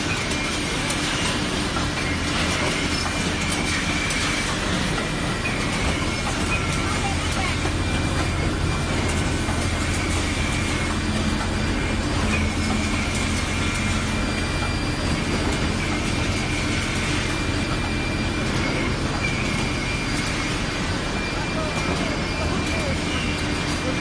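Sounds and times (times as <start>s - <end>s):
production line machinery rumbling: 0.0s - 24.0s.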